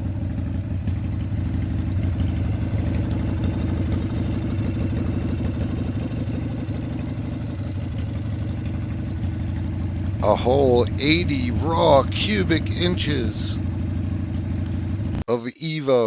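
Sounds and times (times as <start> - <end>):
motorcycle engine idling: 0.0 - 15.2.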